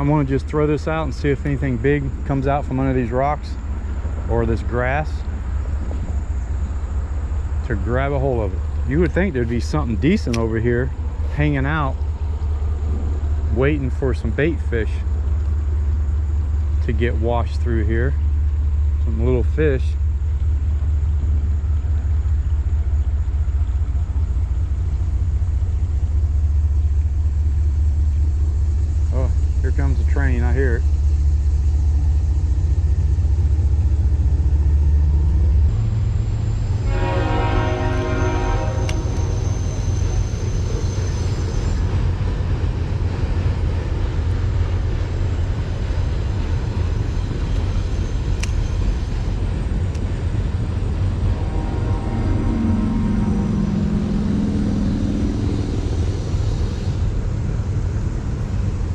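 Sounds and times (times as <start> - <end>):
rushing noise: 0.0 - 58.9
steady low rumble: 0.0 - 58.9.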